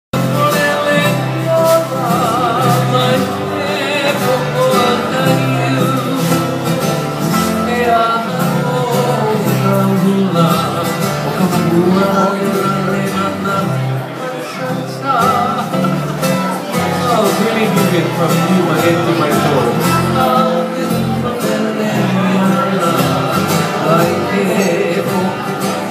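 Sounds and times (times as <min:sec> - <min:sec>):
guitar playing: 0:00.2 - 0:25.9
person singing: 0:00.2 - 0:25.9.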